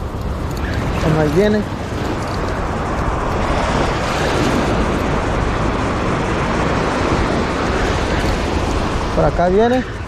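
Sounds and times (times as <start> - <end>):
surf breaking on beach: 1.0 - 10.0.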